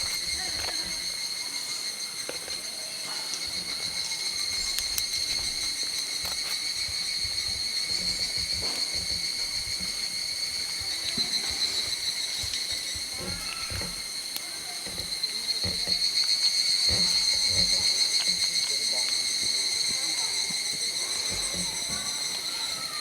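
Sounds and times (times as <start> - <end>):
faint clicks and knocks: 0.0 - 1.3, 2.2 - 23.0
insects droning: 0.0 - 23.0.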